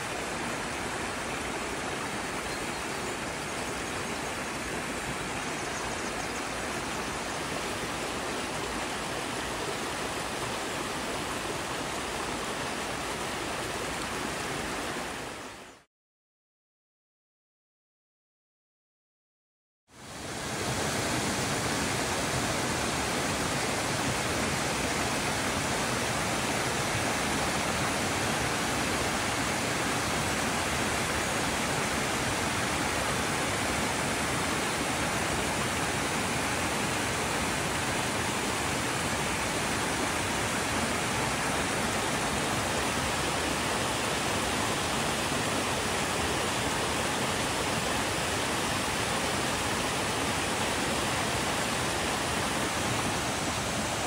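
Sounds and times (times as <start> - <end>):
water rushing: 0.0 - 15.9, 19.9 - 54.0.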